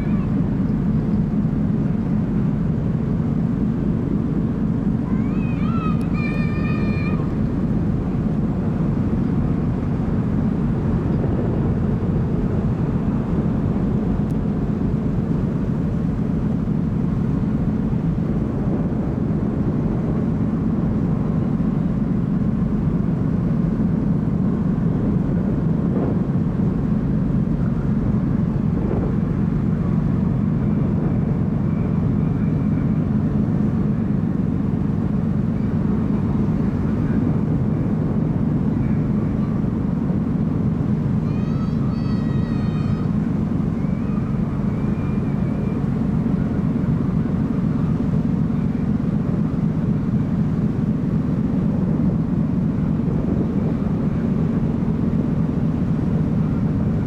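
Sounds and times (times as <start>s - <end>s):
rush of air and water: 0.0s - 57.0s
ship engine low rumble: 0.0s - 57.0s.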